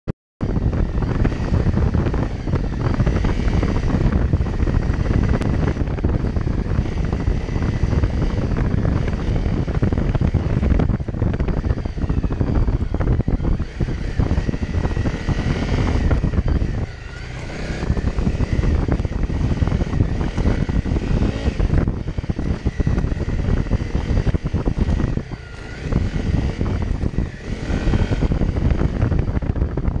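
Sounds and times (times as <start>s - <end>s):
motorcycle engine under throttle: 0.4s - 30.0s.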